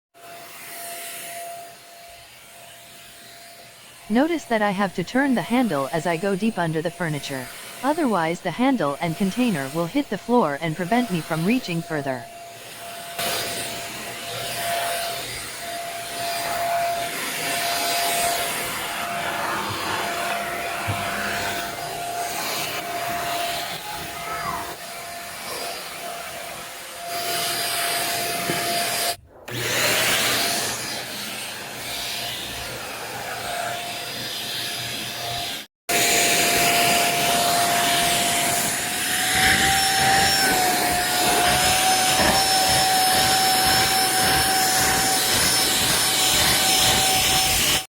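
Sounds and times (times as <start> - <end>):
handheld vacuum cleaner whining: 0.2 - 4.0, 12.3 - 47.8.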